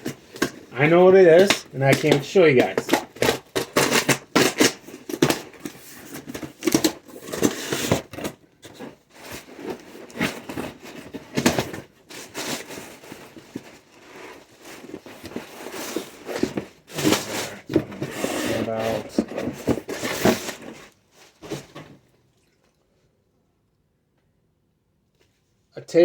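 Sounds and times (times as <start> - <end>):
packaging tearing and crinkling: 0.0 - 20.9.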